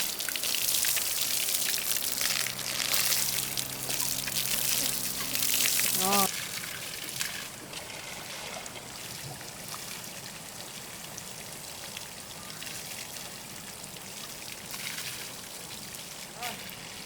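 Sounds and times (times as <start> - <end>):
trickle of running water: 0.0 - 17.0.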